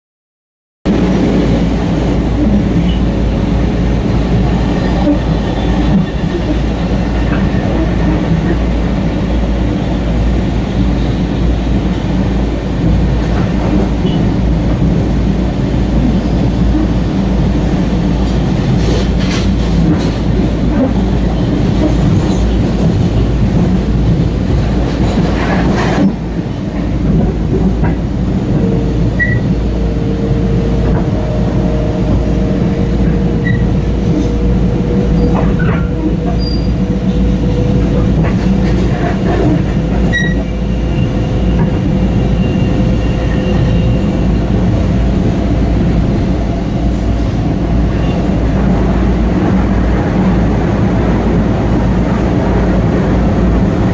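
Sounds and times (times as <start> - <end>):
train car rumble and rail noise: 0.8 - 53.9
passing train on next track: 0.9 - 53.9.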